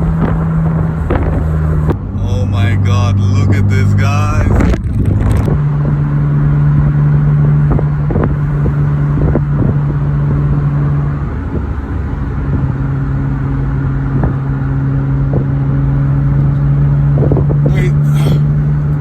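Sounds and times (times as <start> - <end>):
car engine humming: 0.0 - 13.1, 15.8 - 19.0
road and wind rumble: 0.0 - 19.0.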